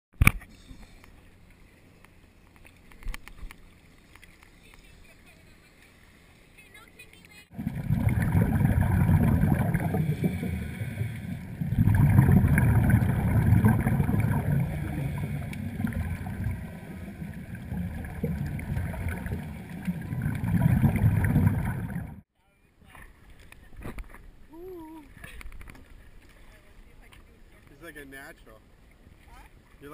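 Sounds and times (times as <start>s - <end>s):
underwater rumble and sloshing water: 0.2s - 6.8s, 7.5s - 29.9s.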